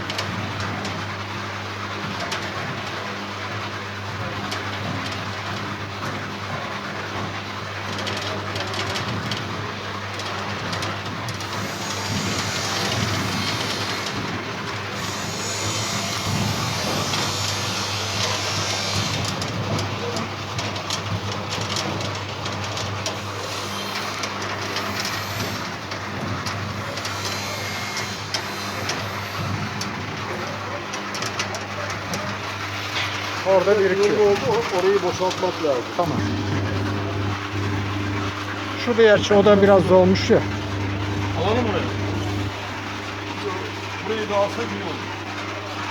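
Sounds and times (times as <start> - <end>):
motor hum: 0.0 - 45.9.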